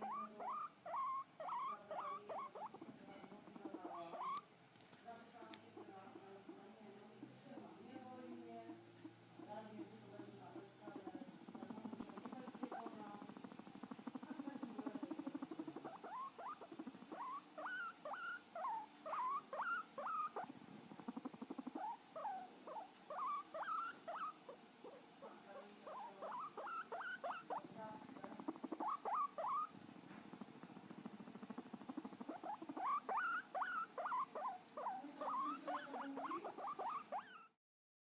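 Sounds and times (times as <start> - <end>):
guinea pig squeaking: 0.0 - 4.5, 5.1 - 37.6.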